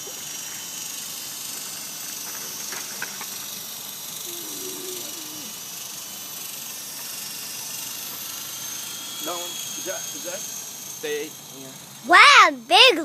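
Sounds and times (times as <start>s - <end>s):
toy helicopter rotors whining: 0.0s - 13.0s.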